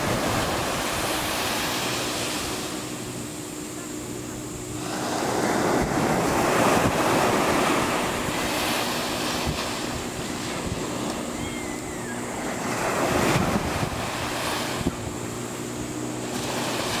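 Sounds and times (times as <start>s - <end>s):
waves washing up a sandy beach: 0.0s - 17.0s.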